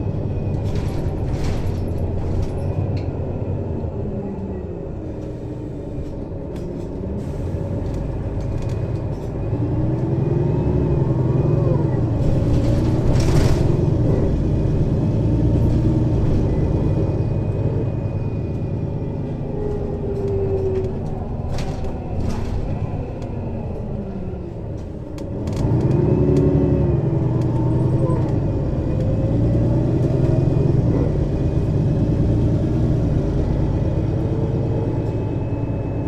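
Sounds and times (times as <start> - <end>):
bus engine under load: 0.0 - 36.0.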